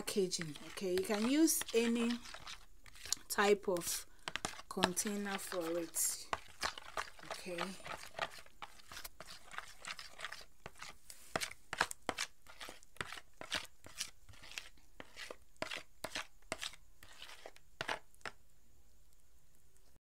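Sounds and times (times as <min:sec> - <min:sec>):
spatula stirring thick cream: 0:00.0 - 0:18.4.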